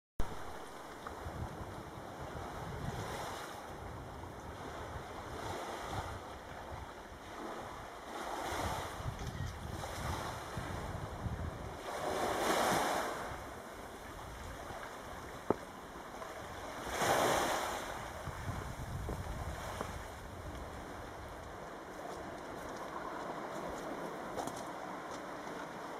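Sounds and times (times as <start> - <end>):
wind rumbling on microphone: 0.2 - 25.9
waves on pebble beach: 0.3 - 25.9.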